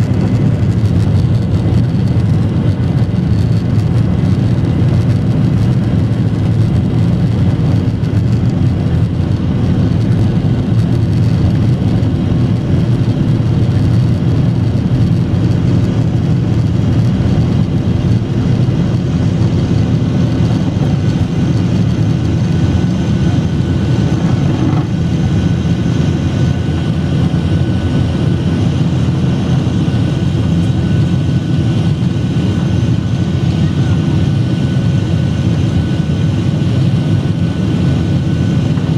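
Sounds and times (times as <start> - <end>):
jet engines rumbling from cabin: 0.0 - 38.9.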